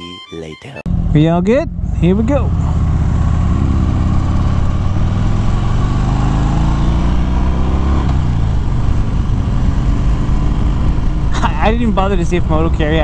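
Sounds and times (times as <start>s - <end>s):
motorcycle engine accelerating: 0.9s - 13.0s.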